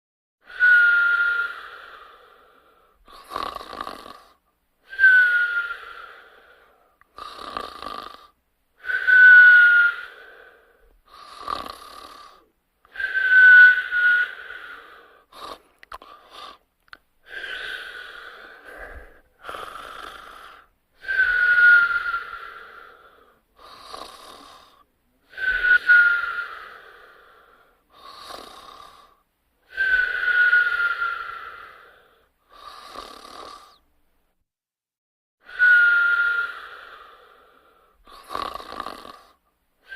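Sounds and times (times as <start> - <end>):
whistling snoring: 0.4 - 16.6, 17.2 - 33.9, 35.4 - 39.9.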